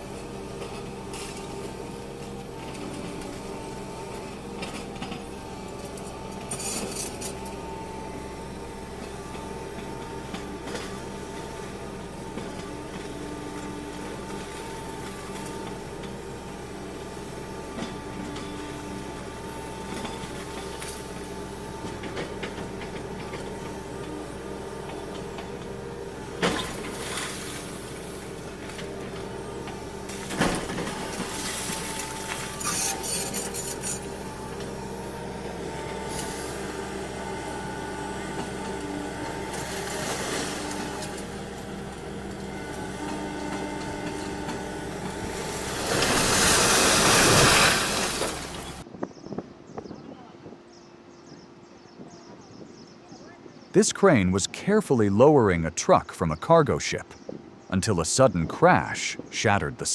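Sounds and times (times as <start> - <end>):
heavy machinery engine hum: 0.0 - 59.9.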